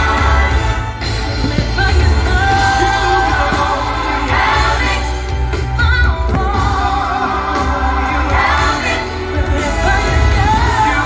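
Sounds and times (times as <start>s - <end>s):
choir singing: 0.0s - 11.0s
loud music over loudspeakers: 0.0s - 11.0s.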